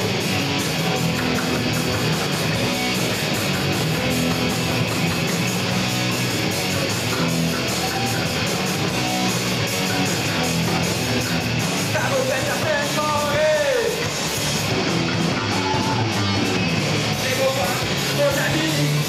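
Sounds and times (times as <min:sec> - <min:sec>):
drums: 0:00.0 - 0:19.0
electric guitars: 0:00.0 - 0:19.0.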